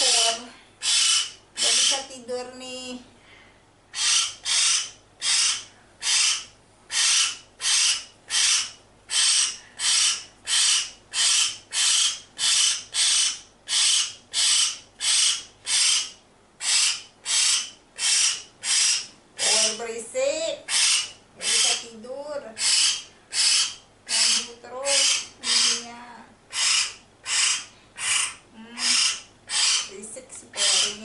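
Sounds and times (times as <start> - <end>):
bird harsh raspy calls: 0.0 - 2.1, 3.9 - 19.8, 20.6 - 30.0, 30.6 - 31.0.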